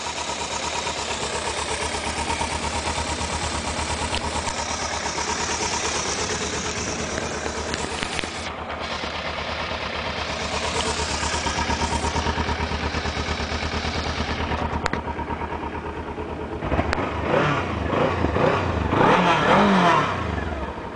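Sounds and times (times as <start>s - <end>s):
motorcycle engine idling and revving: 0.0s - 20.9s.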